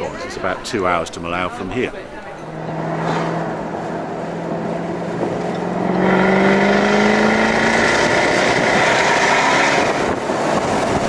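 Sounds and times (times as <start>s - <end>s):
road and wind noise: 0.0s - 11.0s
car engine accelerating: 2.0s - 11.0s.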